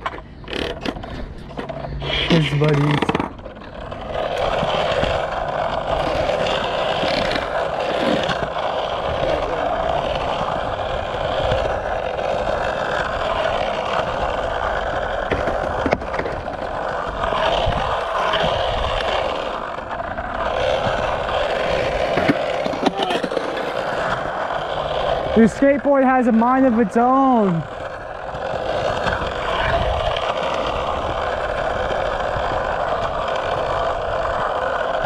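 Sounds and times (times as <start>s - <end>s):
skateboard wheels rolling on concrete: 0.0s - 35.0s.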